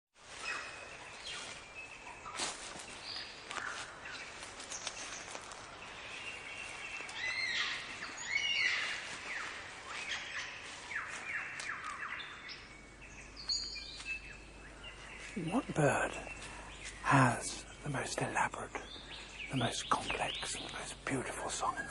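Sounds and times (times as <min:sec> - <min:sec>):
birds singing and calling: 0:00.3 - 0:21.9
downward-sweeping bird calls: 0:00.3 - 0:21.9.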